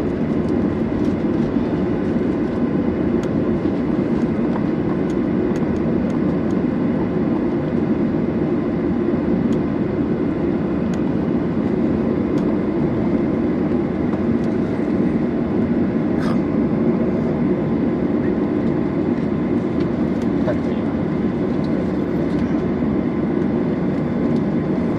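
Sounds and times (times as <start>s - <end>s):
airplane cabin rumble: 0.0s - 24.9s.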